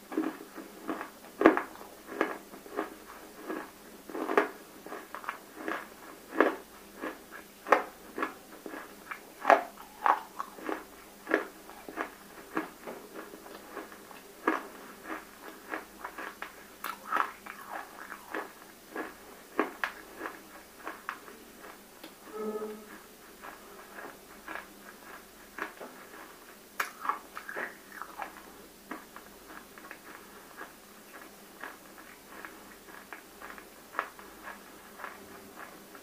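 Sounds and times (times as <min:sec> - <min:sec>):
crunchy chewing: 0:00.0 - 0:36.0.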